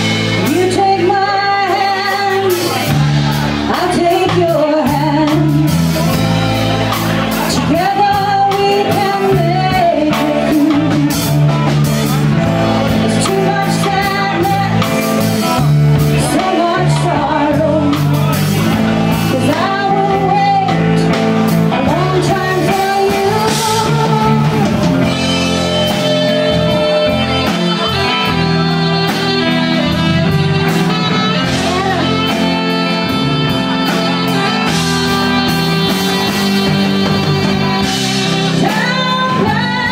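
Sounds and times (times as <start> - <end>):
drums: 0.0 - 39.9
electric guitar: 0.0 - 39.9
woman singing: 0.3 - 3.0, 3.6 - 6.1, 7.4 - 11.4, 13.0 - 18.3, 19.3 - 39.9.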